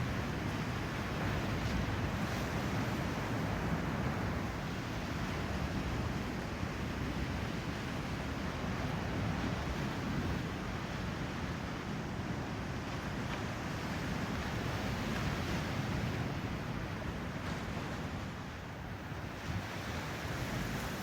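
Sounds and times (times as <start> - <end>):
ocean surf: 0.0 - 21.0.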